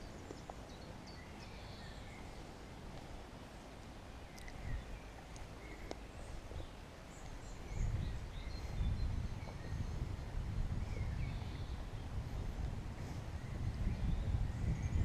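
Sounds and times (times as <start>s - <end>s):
low rumbling noise: 0.0s - 15.0s
songbirds chirping and twittering: 0.0s - 15.0s.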